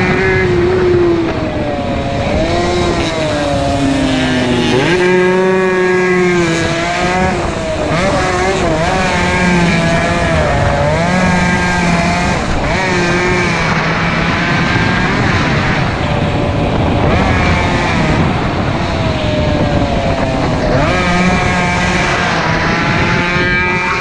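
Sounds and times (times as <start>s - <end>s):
two-stroke motorcycle engines revving: 0.0s - 24.0s.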